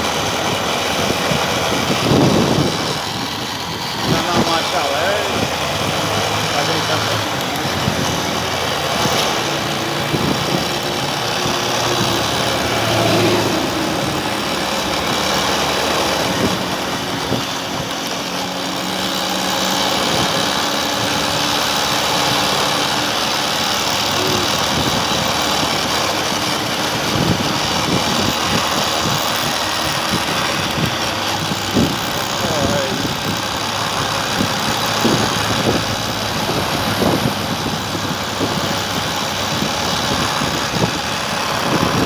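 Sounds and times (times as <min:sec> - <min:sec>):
electric motor hum: 0:00.0 - 0:42.0.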